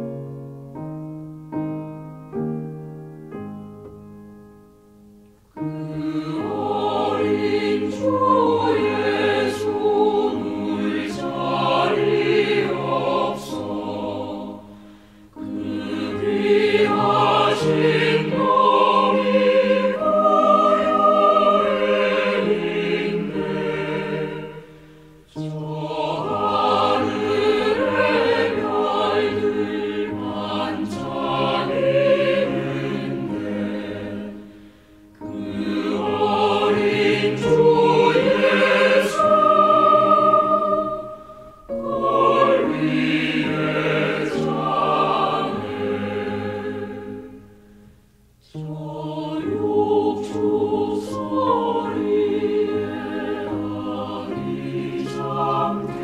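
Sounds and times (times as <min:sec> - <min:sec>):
choir singing a carol: 0:05.5 - 0:56.0.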